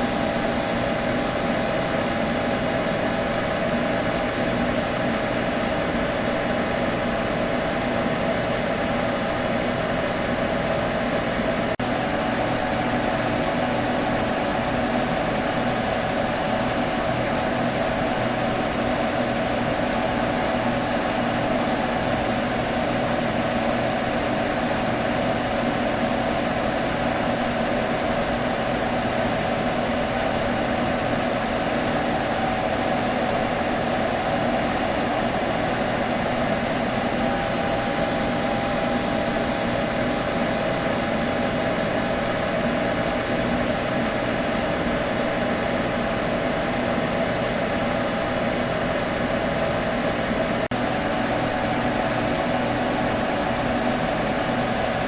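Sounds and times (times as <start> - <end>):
computer fan humming: 0.0 - 55.0.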